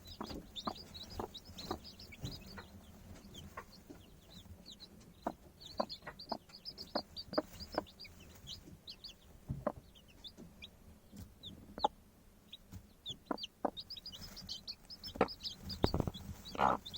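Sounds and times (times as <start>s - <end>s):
chickens clucking: 0.0s - 16.9s.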